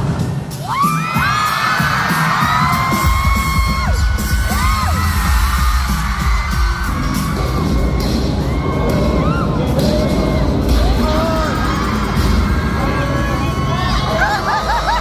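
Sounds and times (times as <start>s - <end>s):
audience screaming and cheering: 0.0s - 15.0s
loud pop music with steady beat: 0.0s - 15.0s.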